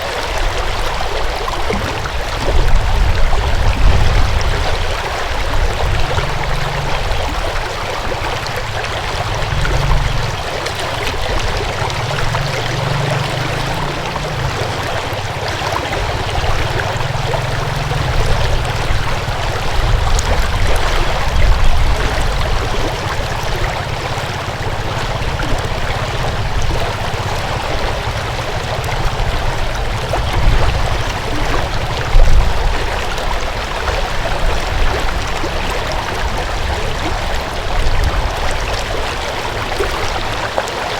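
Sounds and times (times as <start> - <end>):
low uneven rumble: 0.0 - 40.9
stream water rushing: 0.0 - 40.9.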